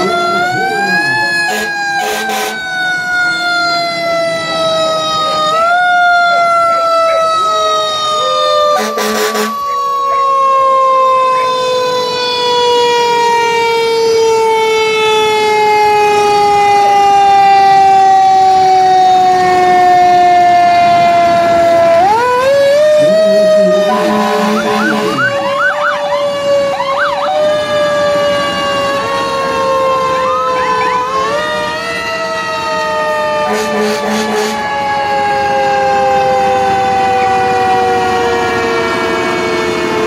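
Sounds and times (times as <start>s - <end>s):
emergency siren wailing: 0.0s - 40.0s.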